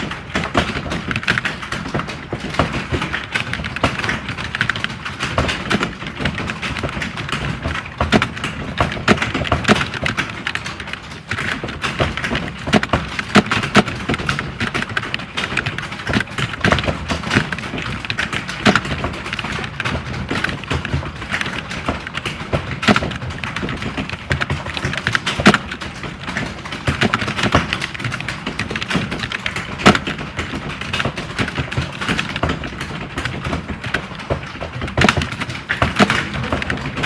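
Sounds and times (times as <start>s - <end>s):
keyboard typing clatter: 0.0s - 37.0s.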